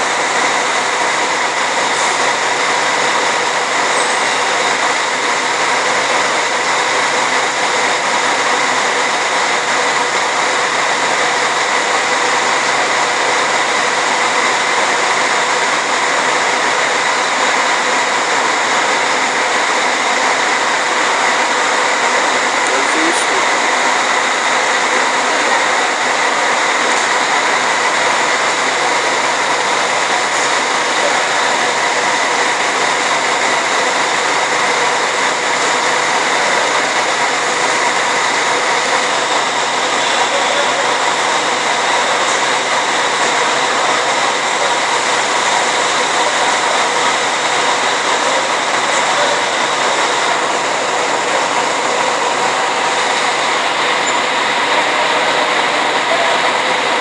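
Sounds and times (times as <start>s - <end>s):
engines running with high whine: 0.0s - 57.0s.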